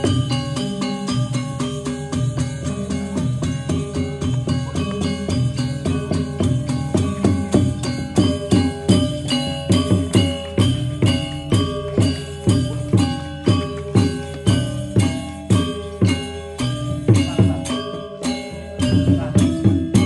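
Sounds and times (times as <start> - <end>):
drum beat: 0.0 - 20.0
metallophones and gongs ringing: 0.0 - 20.0.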